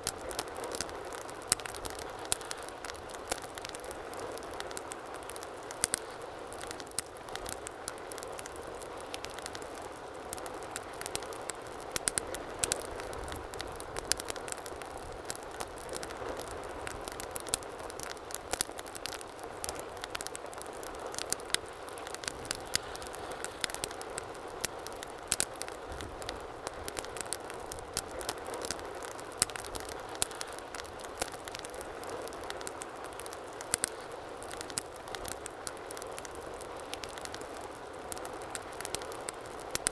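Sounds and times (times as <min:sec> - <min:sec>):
fire crackling and popping: 0:00.0 - 0:39.9
wood fire hissing: 0:00.0 - 0:39.9.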